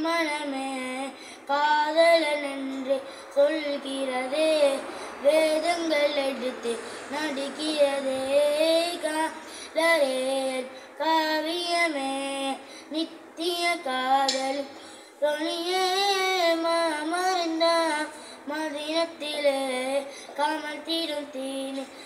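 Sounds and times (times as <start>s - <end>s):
boy singing unaccompanied: 0.0s - 22.0s.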